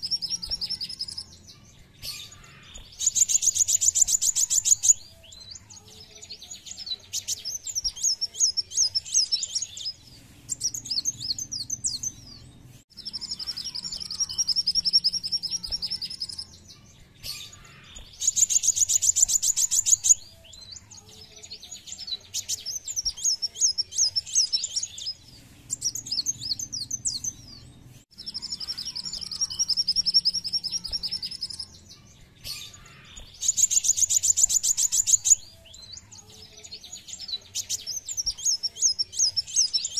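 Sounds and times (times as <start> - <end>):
sunbird twittering and trilling: 0.0 - 39.9.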